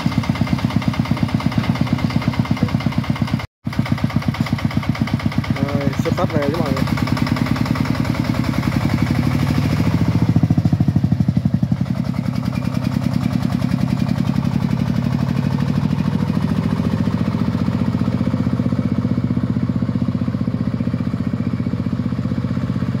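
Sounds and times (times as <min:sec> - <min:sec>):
tractor diesel engine chugging: 0:00.0 - 0:23.0.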